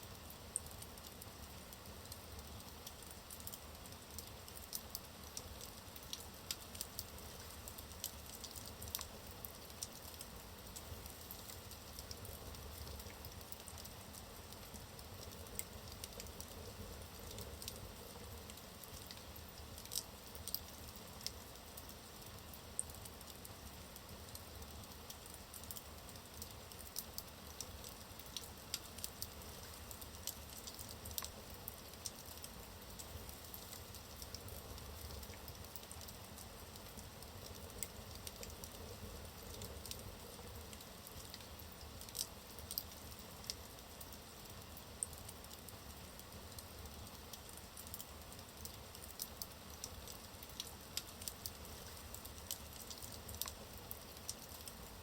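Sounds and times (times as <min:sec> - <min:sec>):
wood fire crackling and popping: 0:00.1 - 0:55.0.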